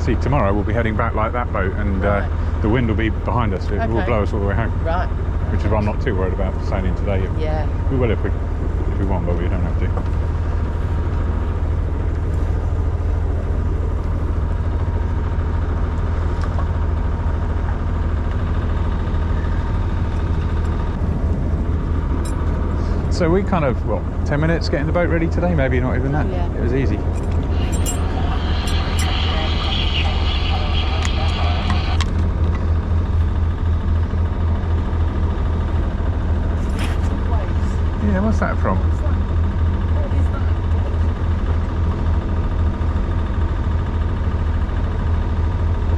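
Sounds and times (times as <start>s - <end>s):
boat engine droning: 0.0s - 45.9s
wind: 0.0s - 45.9s.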